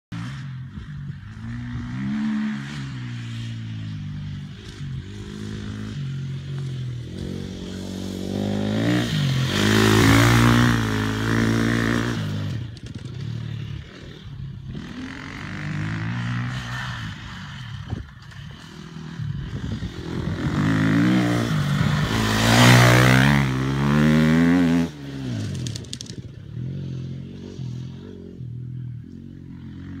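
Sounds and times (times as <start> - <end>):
dirt bike engine revving: 0.1 - 30.0.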